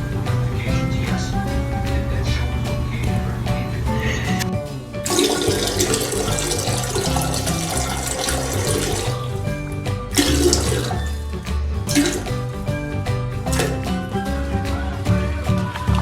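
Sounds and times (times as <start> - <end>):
background music with bass line: 0.0 - 16.0
water rushing: 0.0 - 16.0.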